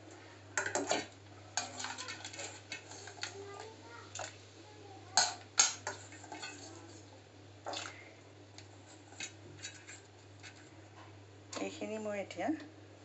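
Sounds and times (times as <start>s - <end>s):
water sounds in saucepan: 0.0s - 10.8s.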